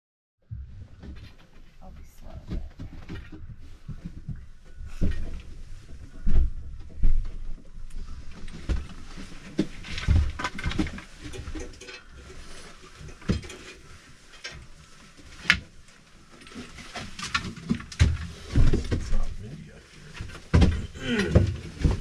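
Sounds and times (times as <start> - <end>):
knocks and rustling of skis: 0.5 - 22.0.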